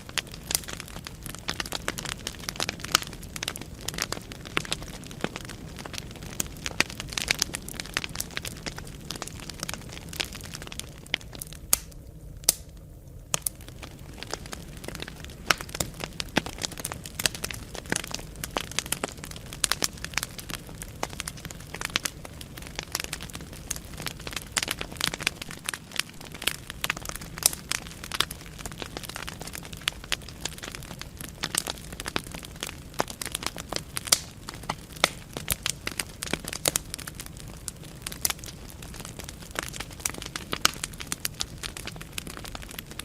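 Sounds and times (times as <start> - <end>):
logs crackling and popping: 0.0 - 43.0
low rumble of flame: 0.0 - 43.0.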